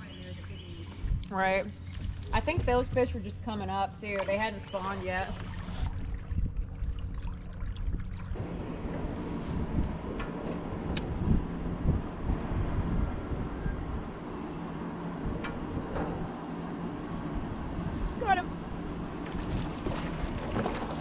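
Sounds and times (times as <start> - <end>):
wind rumbling on microphone: 0.0 - 3.6, 4.4 - 21.0
water sloshing against hull: 0.0 - 11.6, 14.6 - 21.0.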